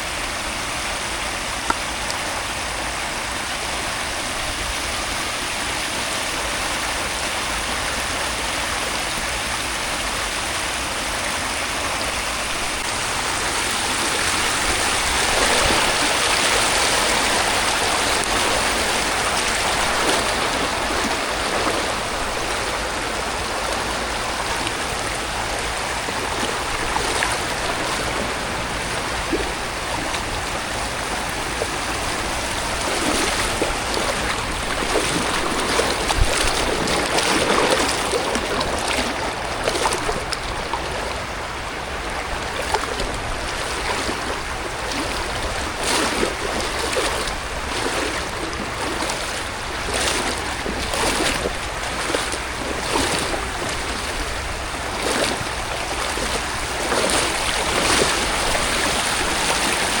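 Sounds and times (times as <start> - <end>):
rushing water: 0.0 - 60.0.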